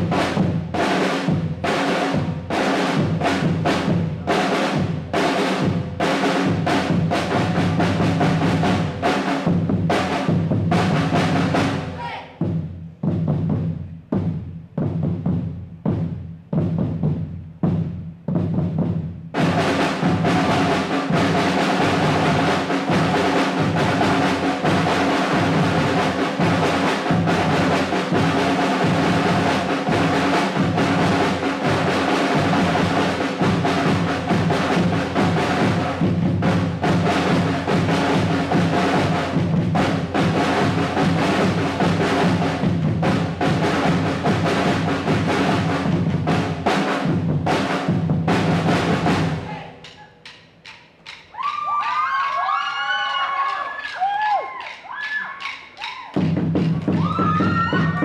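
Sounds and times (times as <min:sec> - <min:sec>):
snare drum ensemble: 0:00.0 - 0:58.0.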